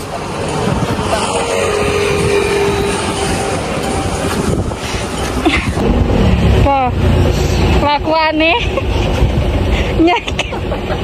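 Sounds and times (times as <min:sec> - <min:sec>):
wind rumbling on microphone: 0:00.0 - 0:10.0
road vehicle noise: 0:00.0 - 0:11.0.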